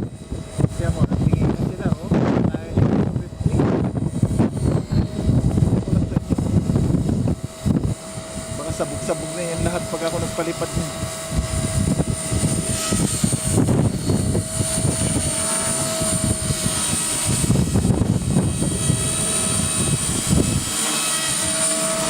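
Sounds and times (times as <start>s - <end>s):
rc helicopter whine: 0.0s - 22.0s
wind buffeting microphone: 0.0s - 22.0s.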